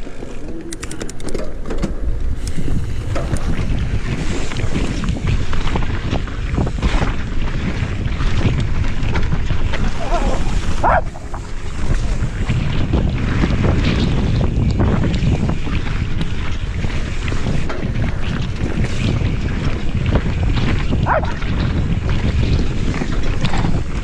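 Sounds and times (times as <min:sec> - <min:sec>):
bike knocks and rattles: 0:00.0 - 0:24.0
wind buffeting microphone: 0:00.0 - 0:24.0.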